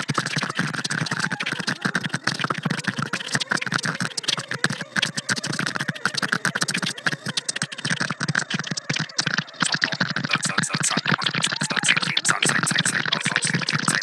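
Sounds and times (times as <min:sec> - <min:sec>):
chopped voice electronic music: 0:00.0 - 0:14.0.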